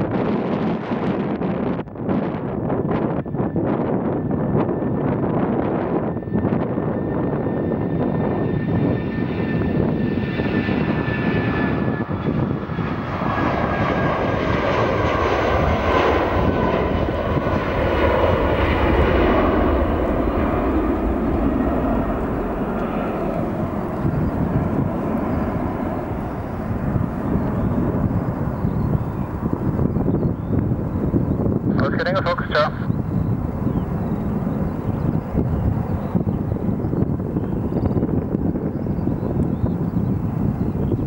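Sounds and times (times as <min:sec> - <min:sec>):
jet engines at takeoff thrust: 0:00.0 - 0:41.0.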